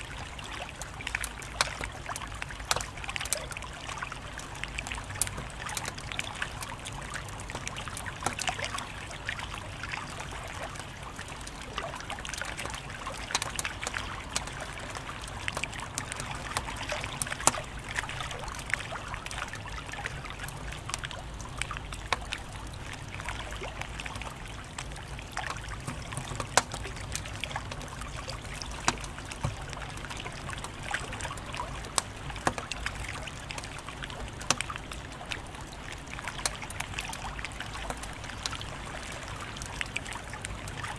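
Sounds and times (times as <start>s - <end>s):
wood fire crackling: 4.3s - 40.9s.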